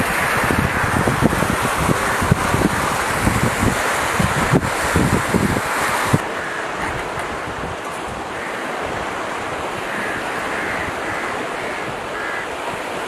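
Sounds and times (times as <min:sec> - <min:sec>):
water washing at shore: 0:00.0 - 0:13.0
wind blowing on microphone: 0:00.0 - 0:13.0.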